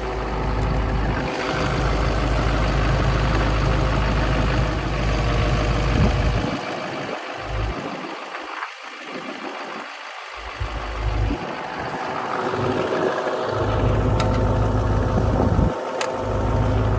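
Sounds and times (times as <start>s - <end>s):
tractor engine rumbling: 0.0s - 16.9s.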